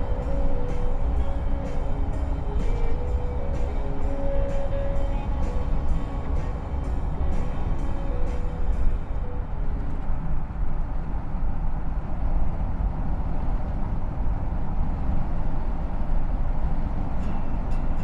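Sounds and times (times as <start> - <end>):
car road and wind noise: 0.0 - 18.0.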